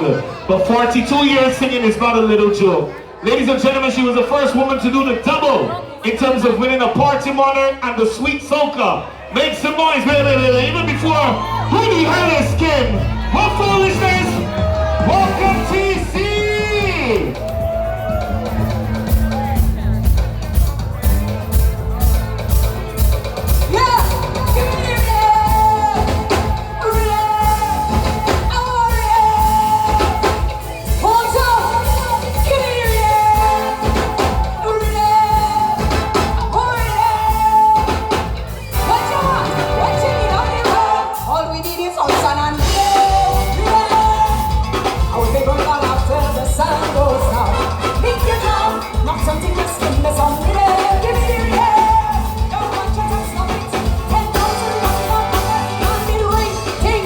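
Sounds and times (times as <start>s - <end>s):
heavy bass beat: 10.2s - 57.0s.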